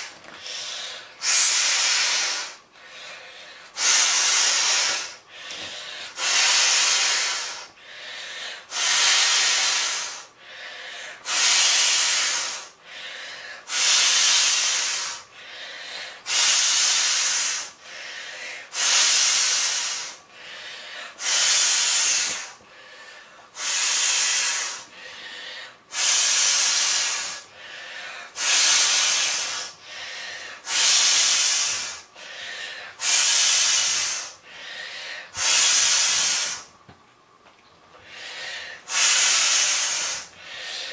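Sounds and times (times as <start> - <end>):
breath blowing into valve: 0.0 - 10.3, 11.1 - 20.2, 21.0 - 22.9, 23.6 - 32.4, 33.0 - 34.5, 35.3 - 36.7, 38.1 - 40.9
person breathing in: 0.0 - 36.8, 38.0 - 40.9.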